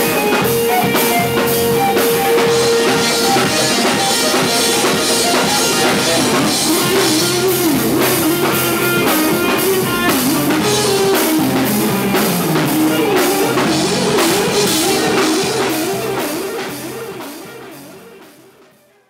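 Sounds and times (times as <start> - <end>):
drum kit: 0.0 - 19.0
guitar: 0.0 - 19.0
live band playing: 0.0 - 19.0.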